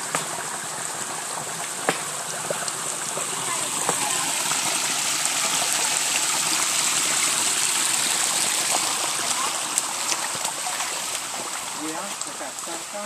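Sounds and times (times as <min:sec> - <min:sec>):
water flowing over rocks: 0:00.0 - 0:13.0.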